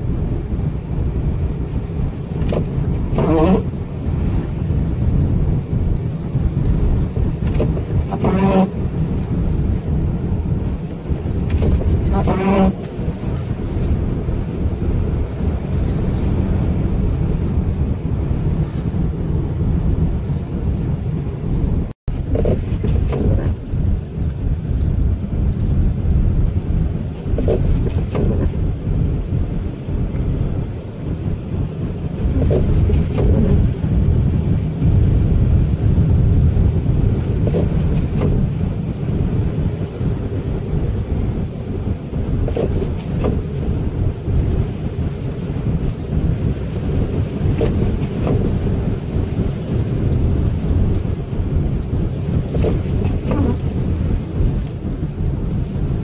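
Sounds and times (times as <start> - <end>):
vehicle driving on snowy road: 0.0 - 56.0
wind noise: 0.0 - 56.0.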